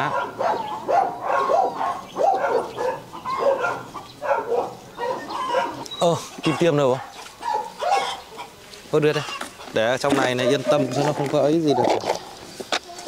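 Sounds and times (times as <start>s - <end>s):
puppies yipping and whining: 0.0s - 8.6s, 9.2s - 12.6s.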